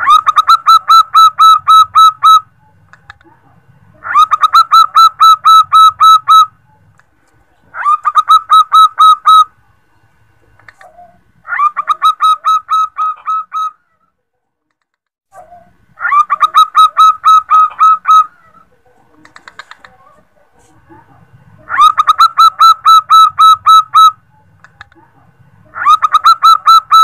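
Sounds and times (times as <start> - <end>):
dove cooing: 0.0 - 6.9, 7.6 - 9.5, 10.4 - 13.9, 15.4 - 25.0, 25.6 - 27.0.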